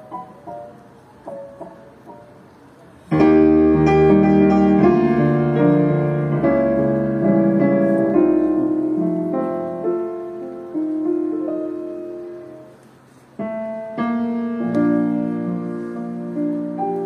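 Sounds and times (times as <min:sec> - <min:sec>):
grand piano chords: 0:00.0 - 0:17.0.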